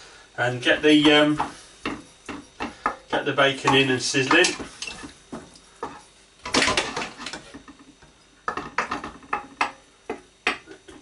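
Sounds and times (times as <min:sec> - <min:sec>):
spoon scraping and knocking a frying pan: 0:00.6 - 0:11.0.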